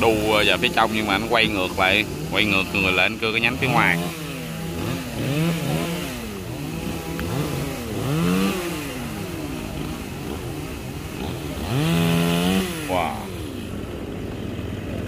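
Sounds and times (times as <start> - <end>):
chainsaw cutting branch: 0.0 - 13.8
second chainsaw running: 0.0 - 14.2.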